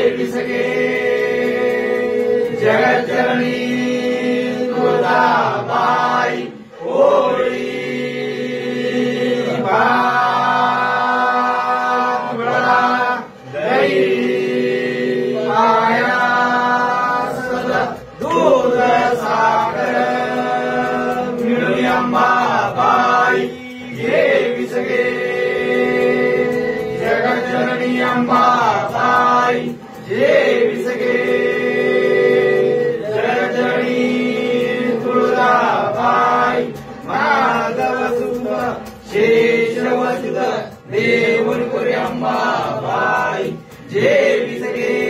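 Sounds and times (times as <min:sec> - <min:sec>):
voices chanting a hymn: 0:00.0 - 0:45.0.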